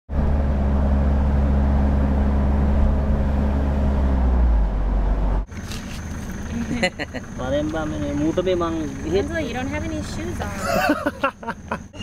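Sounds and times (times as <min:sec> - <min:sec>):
engine droning: 0:00.1 - 0:12.0.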